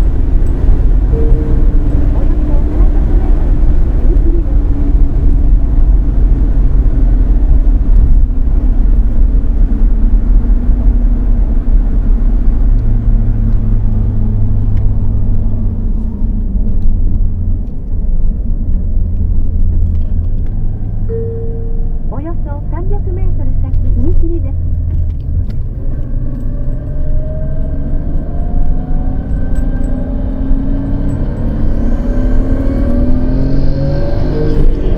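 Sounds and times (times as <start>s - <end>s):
car engine running loudly: 0.0s - 34.9s.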